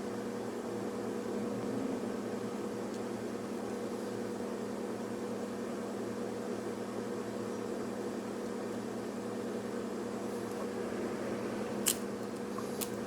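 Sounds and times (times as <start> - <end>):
machine hum with airy hiss: 0.0 - 13.0.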